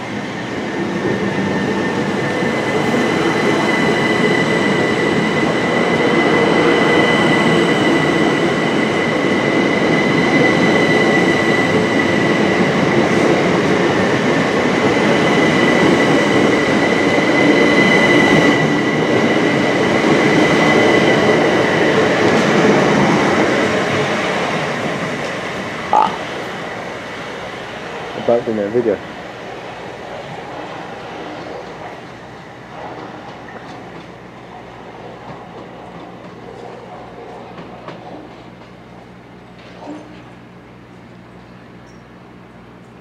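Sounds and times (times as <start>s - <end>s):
train wheels rumbling: 0.0s - 43.0s.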